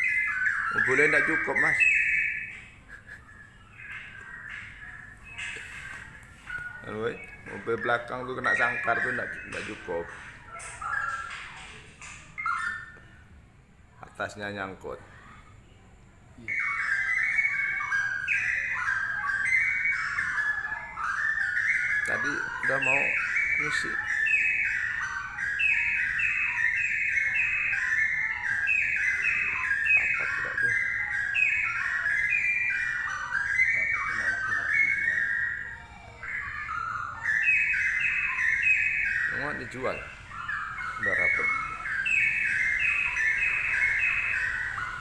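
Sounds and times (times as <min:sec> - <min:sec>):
bird whistled warbling: 0:00.0 - 0:13.2, 0:16.4 - 0:45.0.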